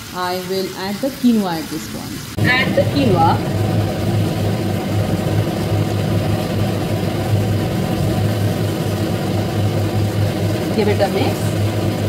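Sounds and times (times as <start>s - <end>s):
dense rushing noise: 2.3s - 12.0s
electric motor humming: 2.3s - 12.0s.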